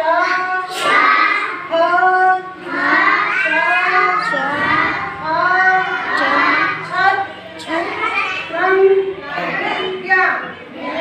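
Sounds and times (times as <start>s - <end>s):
children chanting in unison: 0.0s - 11.0s.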